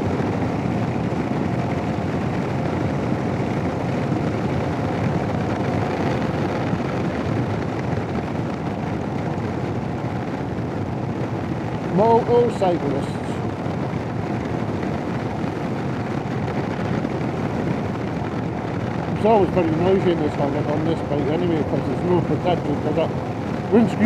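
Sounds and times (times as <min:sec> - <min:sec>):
motorcycle engine: 0:00.0 - 0:24.0
road noise: 0:00.0 - 0:24.0
wind buffeting microphone: 0:00.0 - 0:24.0.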